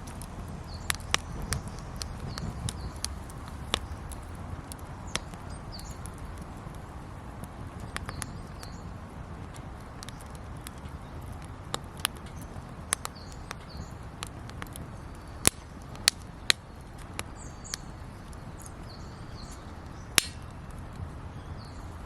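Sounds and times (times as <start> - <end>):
campfire crackling and popping: 0.0 - 22.0
low hiss of burning: 0.0 - 22.0.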